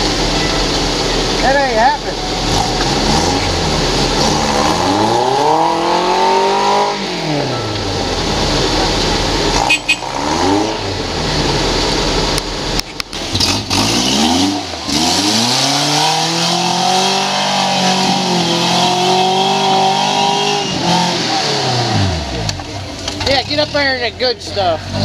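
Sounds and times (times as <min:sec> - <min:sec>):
buggy engine revving: 0:00.0 - 0:25.0.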